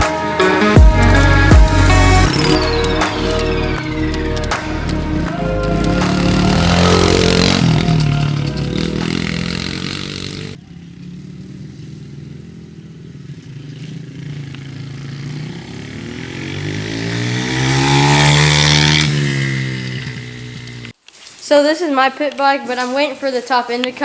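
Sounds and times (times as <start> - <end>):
motorbike revving up approaching: 0.0 - 21.0
pit bike engine revving: 0.0 - 21.0.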